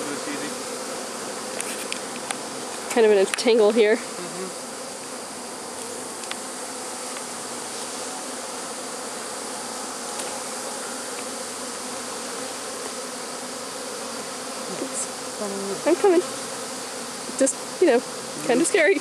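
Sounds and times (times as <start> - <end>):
swarm of bees buzzing: 0.0 - 19.0.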